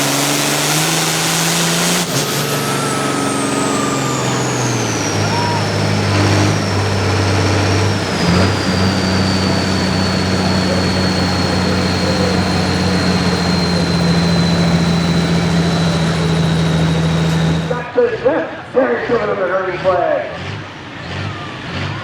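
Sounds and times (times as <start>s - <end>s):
turbo whistle: 0.0s - 17.8s
tractor engine at high revs: 0.0s - 22.0s.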